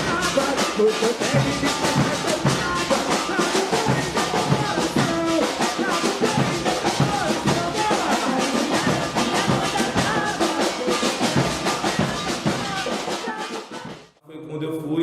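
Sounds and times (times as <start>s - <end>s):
bass drums and percussion: 0.0s - 14.0s
person singing: 0.0s - 14.0s.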